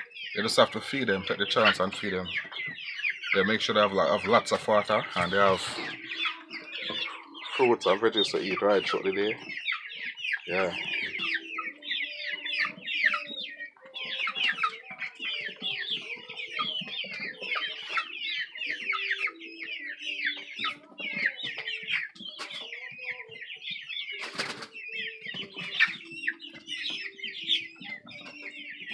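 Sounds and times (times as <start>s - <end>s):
chicks peeping: 0.0s - 28.9s.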